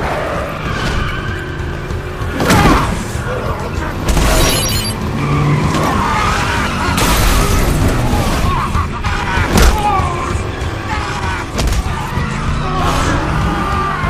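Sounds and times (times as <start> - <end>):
tires squealing and skidding: 0.0 - 14.0.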